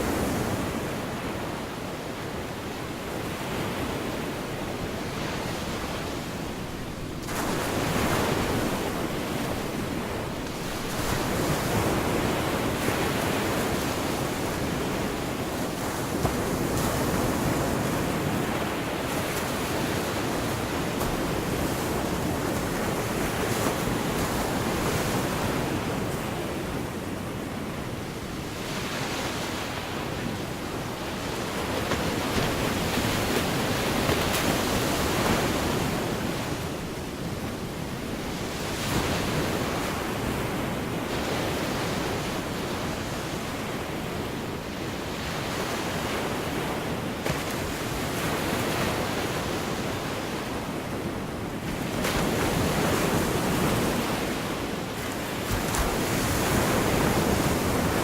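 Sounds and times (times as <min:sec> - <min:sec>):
waves breaking on a beach: 0:00.0 - 0:58.0.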